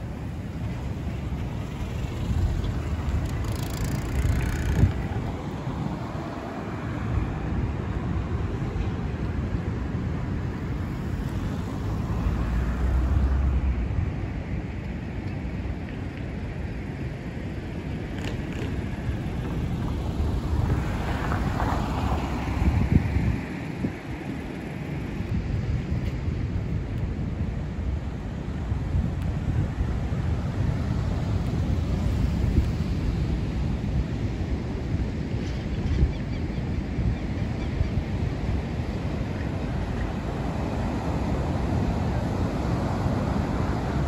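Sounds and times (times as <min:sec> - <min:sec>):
wind rumble on microphone: 0:00.0 - 0:44.0.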